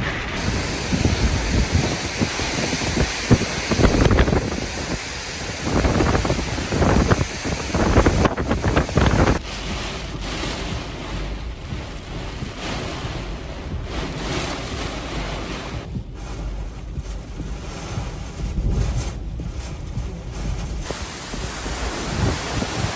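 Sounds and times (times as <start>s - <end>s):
strong wind gusting: 0.0s - 22.9s
wind buffeting microphone: 0.0s - 22.9s.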